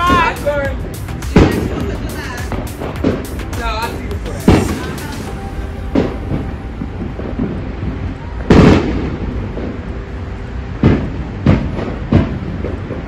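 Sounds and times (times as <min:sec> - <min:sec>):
fireworks booming: 0:00.0 - 0:13.0
low rumble: 0:00.0 - 0:13.0.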